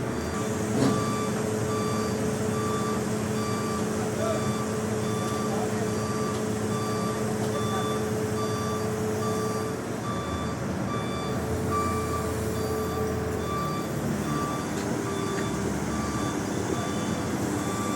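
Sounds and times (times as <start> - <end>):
reversing alarm beeping: 0.1 - 17.9.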